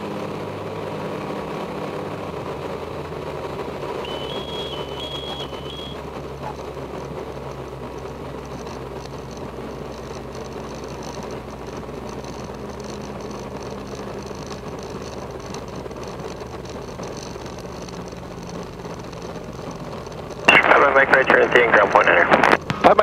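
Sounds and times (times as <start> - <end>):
airplane engine idling: 0.0 - 23.0.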